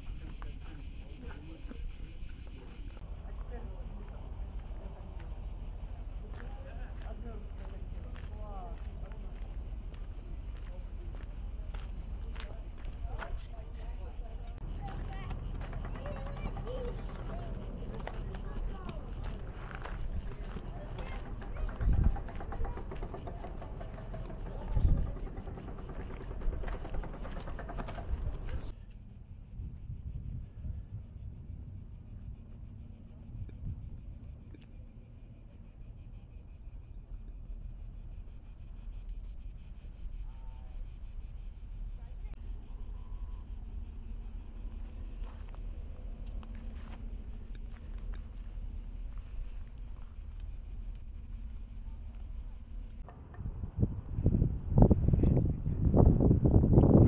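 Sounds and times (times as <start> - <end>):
cicadas buzzing: 0.0 - 53.1.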